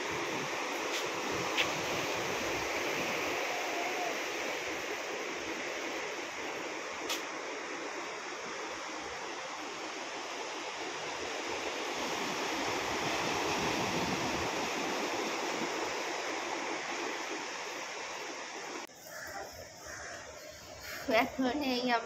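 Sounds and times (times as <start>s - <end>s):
surf breaking on a beach: 0.0s - 18.9s.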